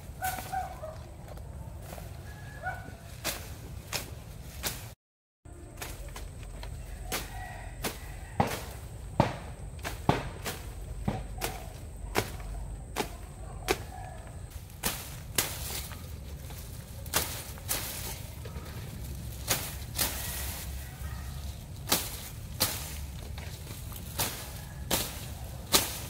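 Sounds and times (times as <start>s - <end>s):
blade swishing through weeds: 0.0s - 1.2s, 1.8s - 5.0s, 5.7s - 26.0s.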